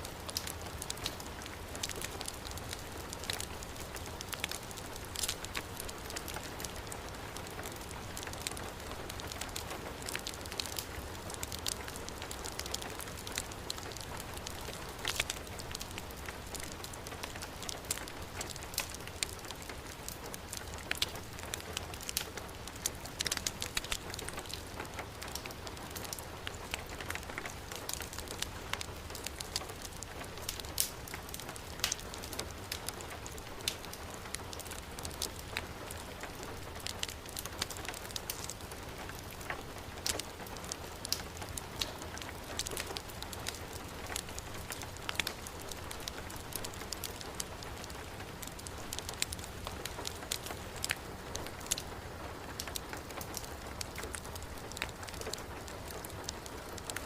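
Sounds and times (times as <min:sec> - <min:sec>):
wood fire crackling: 0:00.0 - 0:57.0
heavy rain falling: 0:00.2 - 0:57.0.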